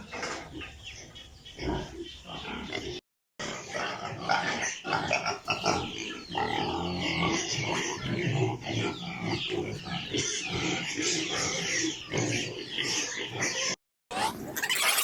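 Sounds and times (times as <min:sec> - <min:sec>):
piglets calling: 0:00.0 - 0:15.0.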